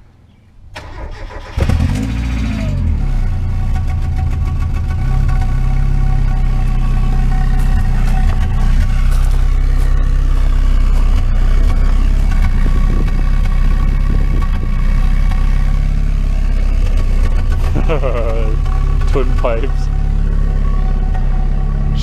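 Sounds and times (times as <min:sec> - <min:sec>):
car engine idling roughly: 0:01.6 - 0:22.0.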